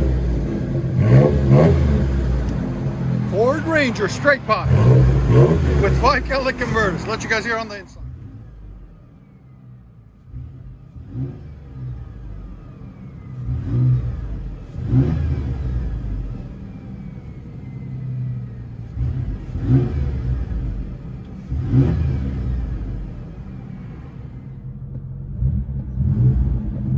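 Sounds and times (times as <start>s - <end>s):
engine idling and revving: 0.0s - 26.9s.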